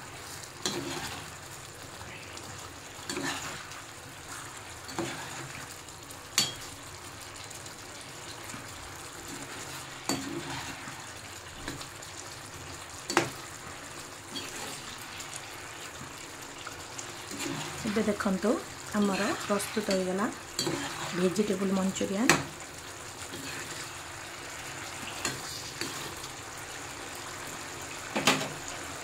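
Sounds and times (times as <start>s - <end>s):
food simmering in a pan: 0.0s - 29.0s.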